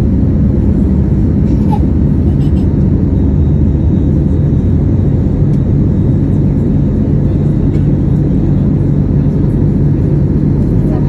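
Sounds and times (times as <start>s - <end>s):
airplane cabin engine roar: 0.0s - 11.0s.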